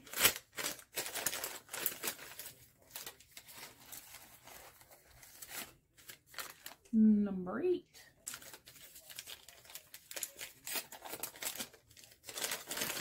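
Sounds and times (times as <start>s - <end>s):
packaging crinkling and rustling: 0.0s - 6.9s, 8.2s - 13.0s.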